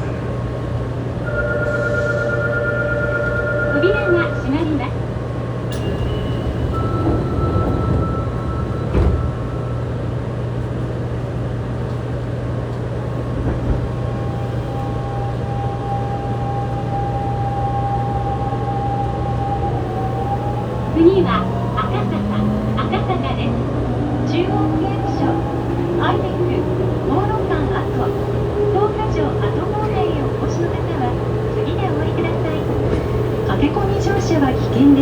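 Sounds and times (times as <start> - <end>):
train doors shutting: 0.0 - 3.4, 4.0 - 35.0
train standing humming: 0.0 - 35.0.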